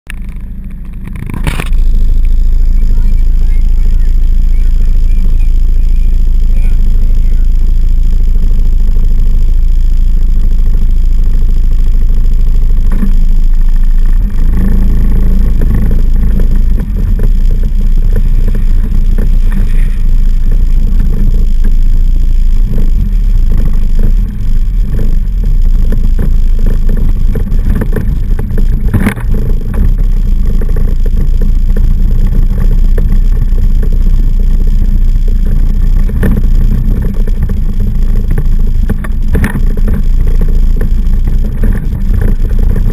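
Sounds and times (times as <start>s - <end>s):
atv engine rumbling: 0.0s - 42.9s.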